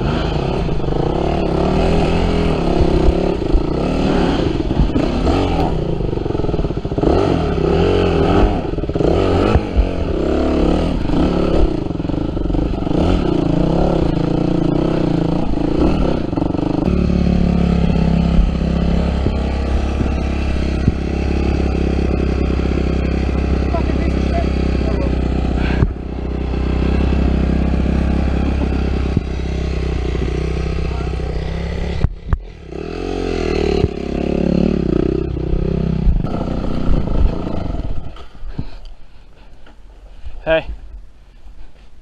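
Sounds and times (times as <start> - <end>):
dirt bike engine revving: 0.0 - 38.4.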